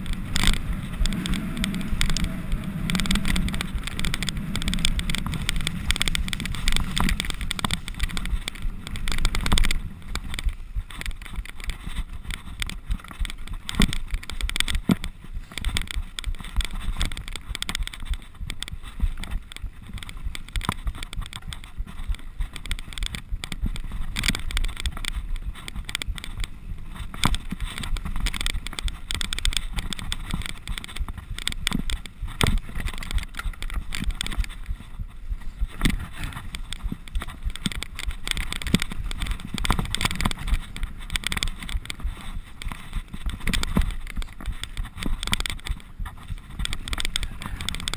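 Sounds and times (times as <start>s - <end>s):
bike rattling and knocking: 0.0s - 47.9s
bike tyres skidding over mud: 0.0s - 47.9s.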